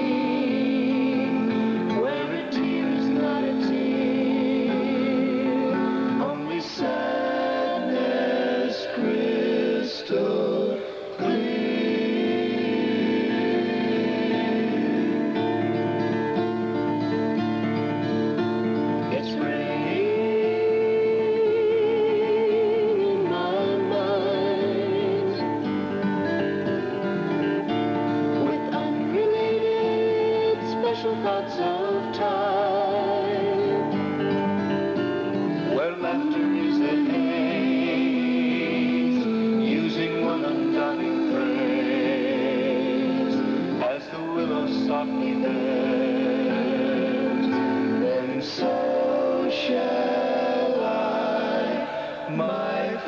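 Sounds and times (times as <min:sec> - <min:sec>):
acoustic guitar: 0:00.0 - 0:53.0
group singing in harmony: 0:00.0 - 0:53.0.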